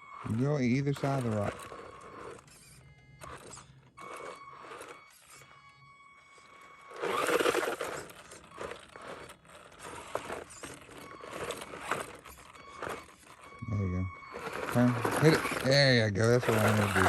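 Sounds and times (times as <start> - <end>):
faint motor whine: 0.0 - 17.0
tyres crunching and scraping on rock: 0.2 - 5.6, 6.8 - 13.6, 14.2 - 17.0.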